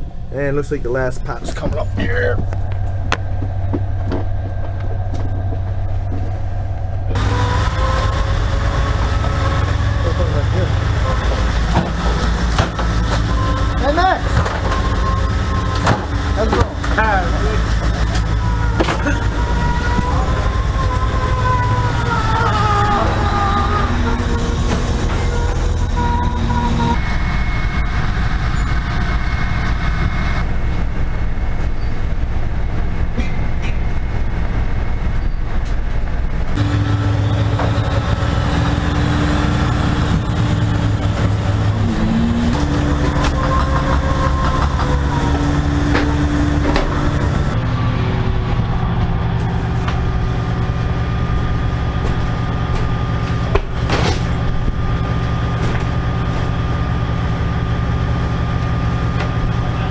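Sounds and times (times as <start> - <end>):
boat machinery drone: 0.0 - 59.9.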